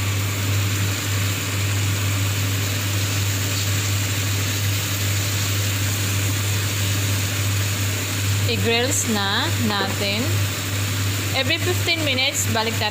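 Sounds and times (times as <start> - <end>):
machine humming with rushing hiss: 0.0 - 12.9.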